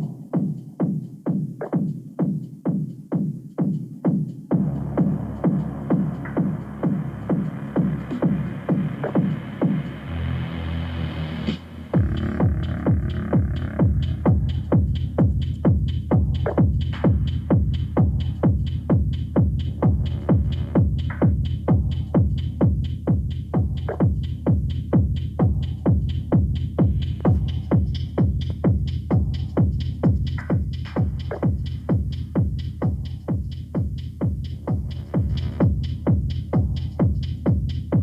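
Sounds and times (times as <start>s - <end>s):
techno kick drum: 0.0s - 10.4s, 11.4s - 38.0s.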